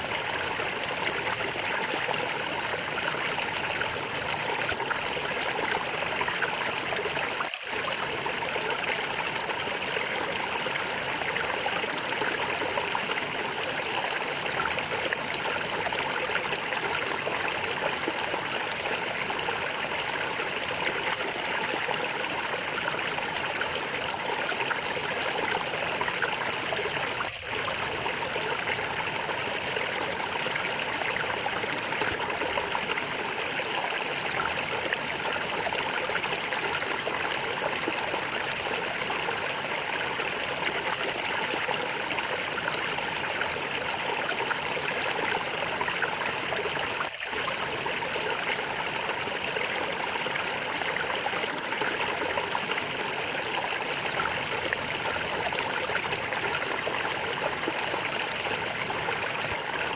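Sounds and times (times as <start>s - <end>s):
stream water gurgling: 0.0s - 59.9s.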